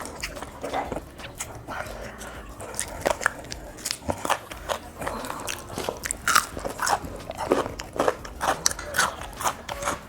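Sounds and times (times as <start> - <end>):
crunching and chewing fried chicken: 0.0 - 10.0.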